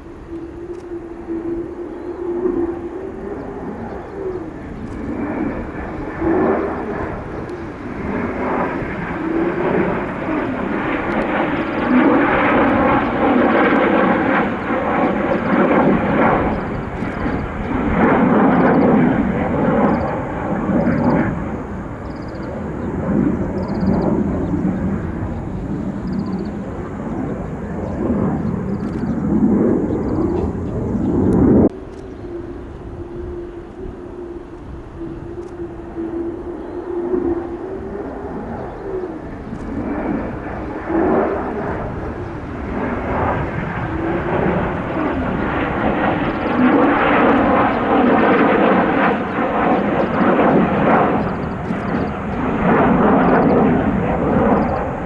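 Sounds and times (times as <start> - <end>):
fighter jet roar: 0.2 - 55.0.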